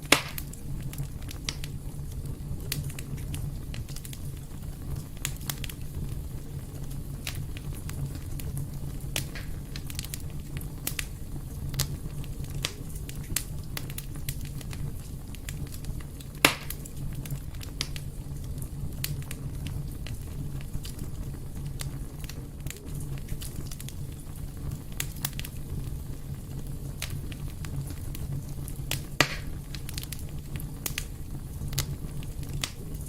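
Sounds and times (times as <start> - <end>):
fire crackling and popping: 0.0 - 33.0
fire rumbling: 0.0 - 33.0.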